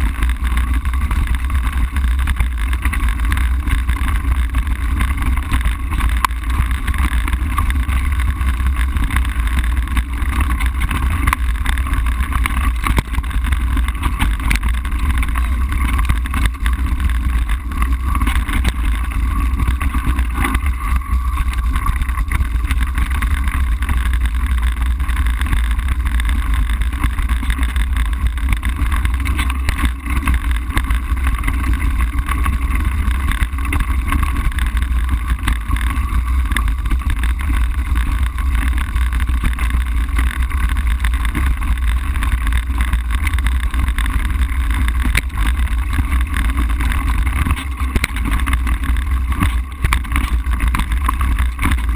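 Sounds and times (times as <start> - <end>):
tyres on loose gravel: 0.0 - 51.9
wind rumbling on microphone: 0.0 - 51.9.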